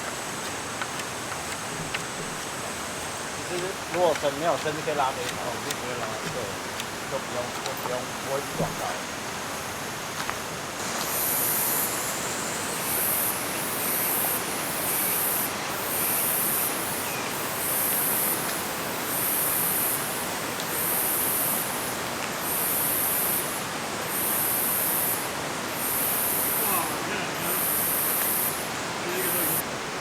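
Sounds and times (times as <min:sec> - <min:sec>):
mountain stream rushing: 0:00.0 - 0:30.0.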